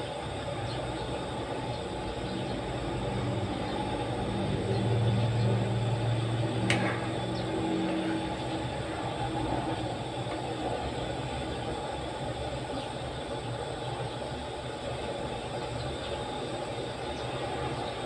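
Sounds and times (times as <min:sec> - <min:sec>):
low motor-like hum: 0:00.0 - 0:18.0.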